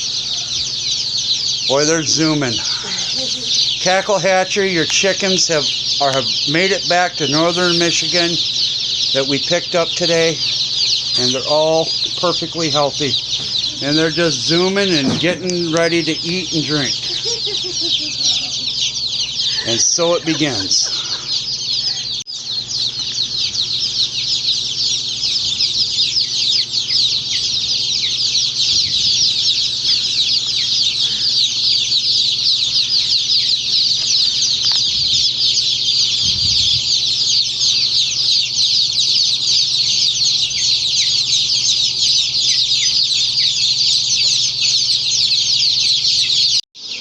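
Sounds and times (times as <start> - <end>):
chicks peeping: 0.0 - 47.0.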